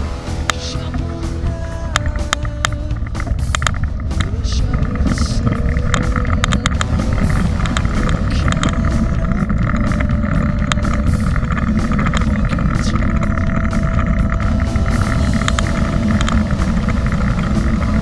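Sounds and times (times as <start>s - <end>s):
bike clicking and rattling over stones: 0.0s - 18.0s
bike tyres rumbling on dirt: 0.0s - 18.0s
wind on camera microphone: 1.5s - 18.0s.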